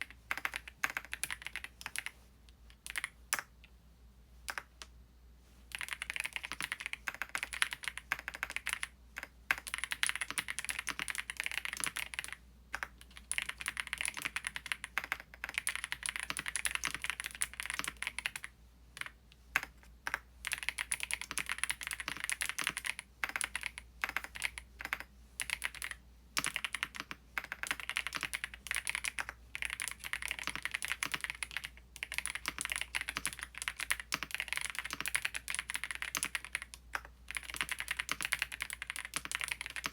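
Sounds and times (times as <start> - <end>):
mechanical keyboard typing: 0.0 - 2.1, 2.8 - 3.5, 5.7 - 39.9.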